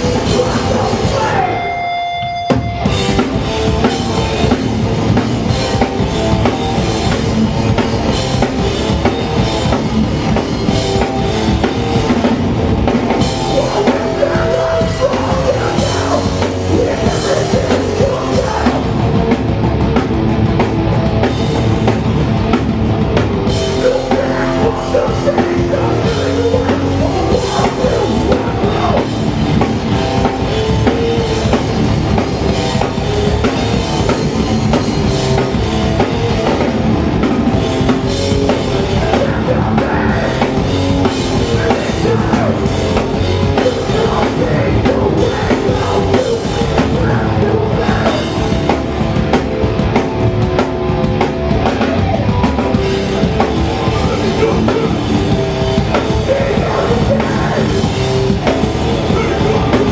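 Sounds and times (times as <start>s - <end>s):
driving drum kit: 0.0s - 59.9s
punk band playing live: 0.0s - 59.9s.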